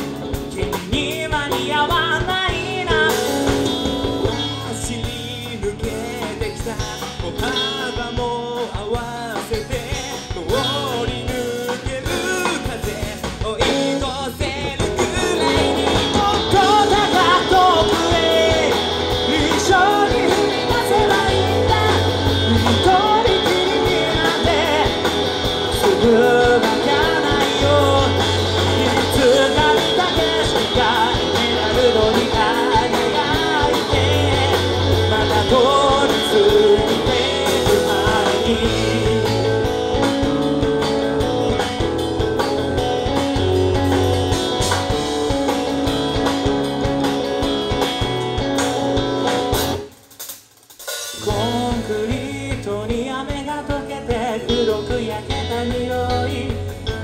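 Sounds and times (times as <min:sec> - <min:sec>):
man singing: 0:00.0 - 0:40.5, 0:51.2 - 0:57.0
live rock band: 0:00.0 - 0:57.0.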